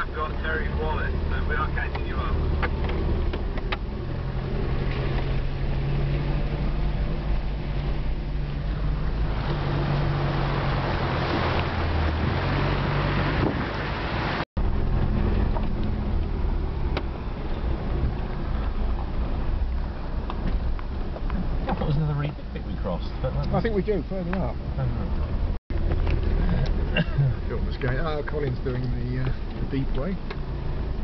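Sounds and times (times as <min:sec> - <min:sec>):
water rushing and splashing: 0:00.0 - 0:31.0.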